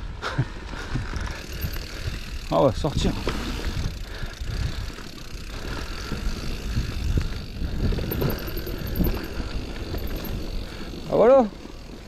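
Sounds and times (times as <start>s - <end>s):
bike rattling over bumps: 0.4s - 12.0s.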